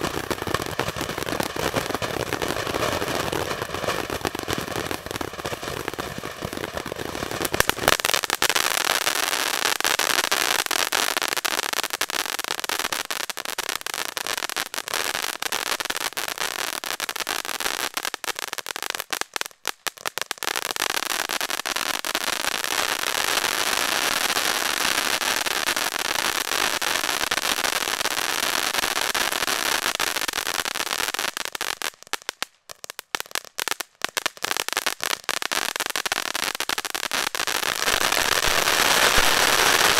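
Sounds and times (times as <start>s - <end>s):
firework fountain hissing and crackling: 0.0s - 39.9s.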